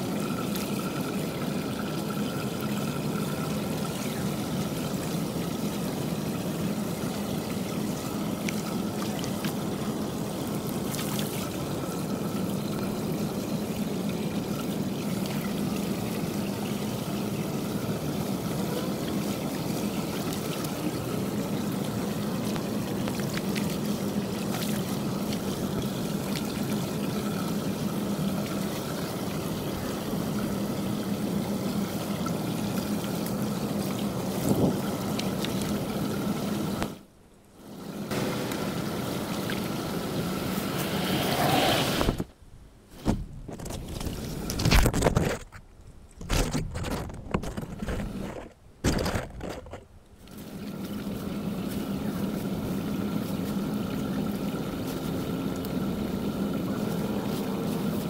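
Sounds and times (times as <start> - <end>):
water pouring through drain grate: 0.0 - 37.0, 43.6 - 58.0.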